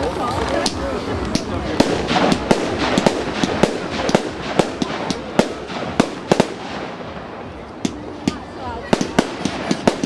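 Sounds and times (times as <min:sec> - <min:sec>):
fireworks bangs and cracks: 0:00.0 - 0:10.0
rumble of explosions: 0:00.6 - 0:10.0.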